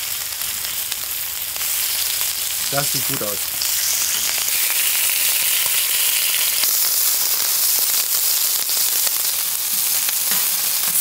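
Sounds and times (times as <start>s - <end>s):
bacon sizzling with small pops: 0.0s - 11.0s.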